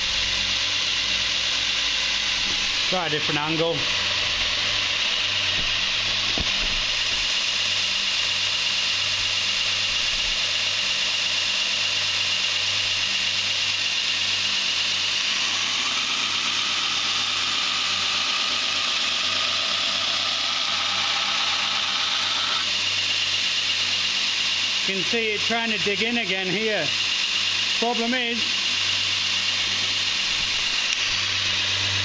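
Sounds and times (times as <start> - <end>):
belt grinder grinding steel: 0.0 - 32.0
motor hum: 0.0 - 32.0.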